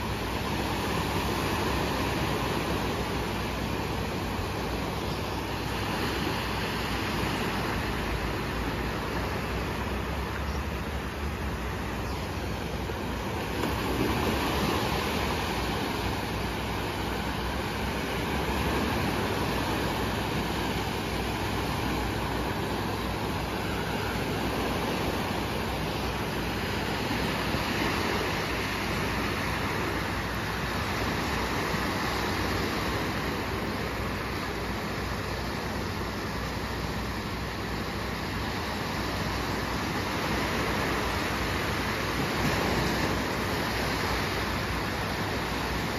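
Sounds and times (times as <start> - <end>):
waves washing up the beach: 0.0 - 45.9.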